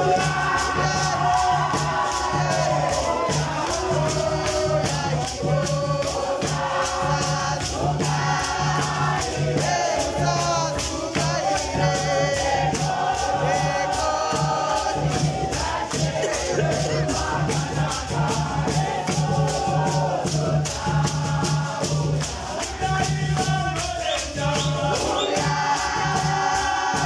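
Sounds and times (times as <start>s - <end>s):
congregation singing gospel song: 0.0s - 27.0s
rhythmic hand clapping: 0.0s - 27.0s.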